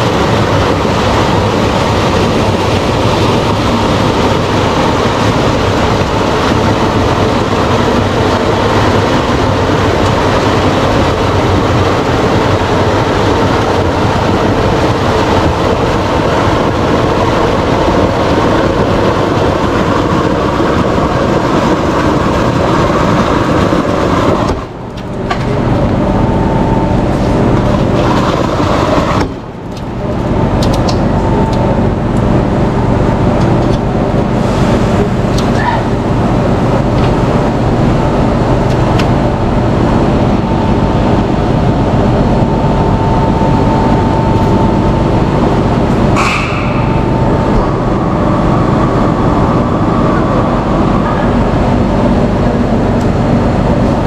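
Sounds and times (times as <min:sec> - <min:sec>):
loud mechanical rumble: 0:00.0 - 0:54.0.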